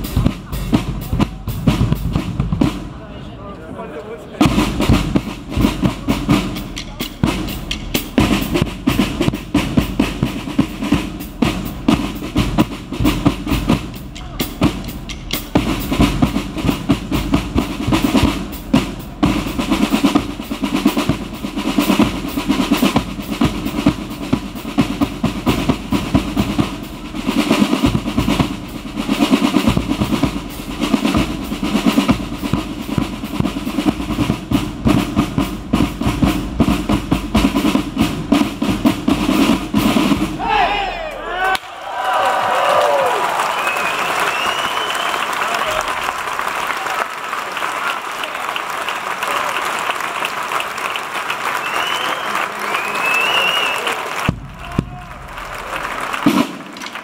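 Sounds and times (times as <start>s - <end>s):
marching snare drums: 0.0s - 3.1s, 4.4s - 41.5s, 43.5s - 46.8s, 50.7s - 57.0s.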